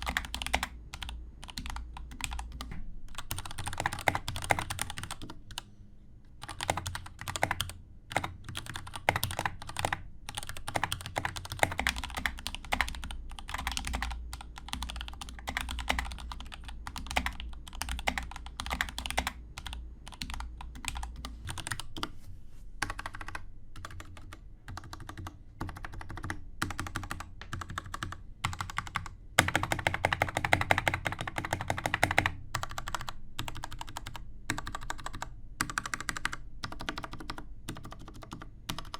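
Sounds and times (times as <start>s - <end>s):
mechanical keyboard typing: 0.0s - 5.7s, 6.4s - 22.1s, 22.8s - 38.9s.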